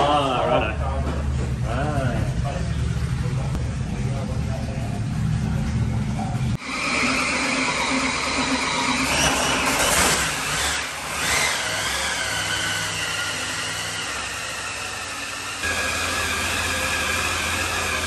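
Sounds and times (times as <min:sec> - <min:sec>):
engine running on a dyno: 0:00.0 - 0:18.0.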